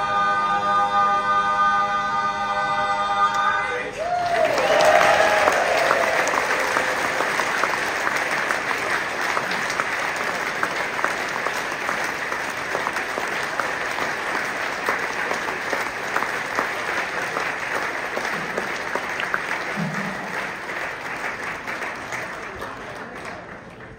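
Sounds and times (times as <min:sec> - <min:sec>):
audience applauding: 0:04.0 - 0:23.9.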